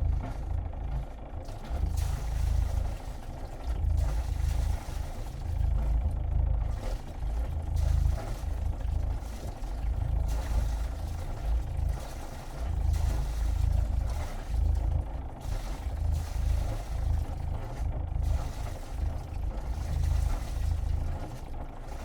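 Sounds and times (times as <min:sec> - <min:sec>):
diesel engine rumble: 0:00.0 - 0:22.0
exhaust splattering water: 0:00.0 - 0:22.0.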